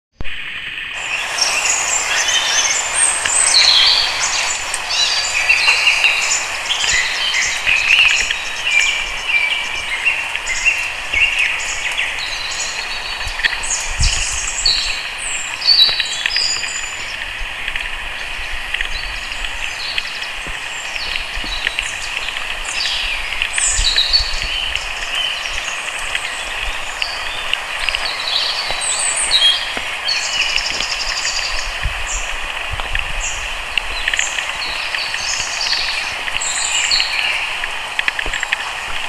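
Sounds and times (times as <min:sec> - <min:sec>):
steady hiss: 0:00.2 - 0:39.0
birds chirping and trilling: 0:00.6 - 0:39.0.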